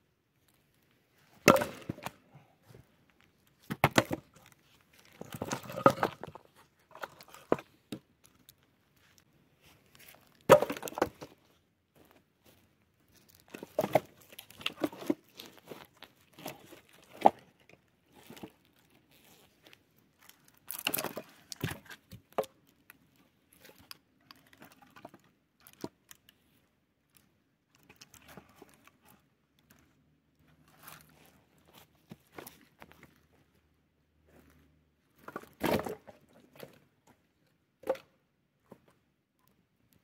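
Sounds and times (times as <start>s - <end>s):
material rustling and crinkling: 0.3s - 10.5s, 11.1s - 35.6s.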